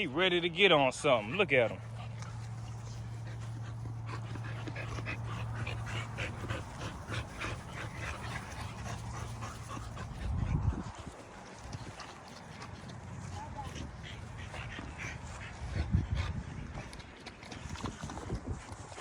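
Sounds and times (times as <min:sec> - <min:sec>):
steady low hum: 0:00.0 - 0:18.9
dogs panting: 0:00.0 - 0:19.0.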